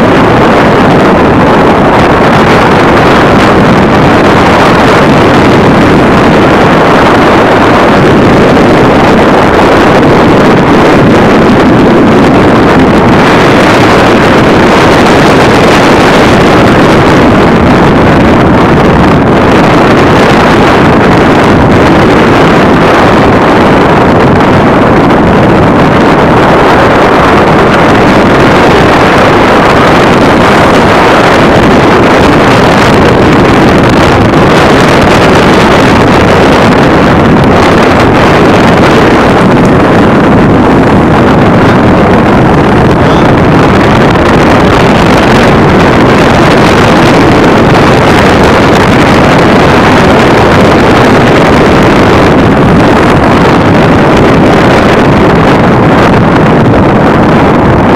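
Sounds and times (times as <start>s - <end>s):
vehicle running noise: 0.0s - 57.9s
wind rushing over microphone: 0.0s - 57.9s.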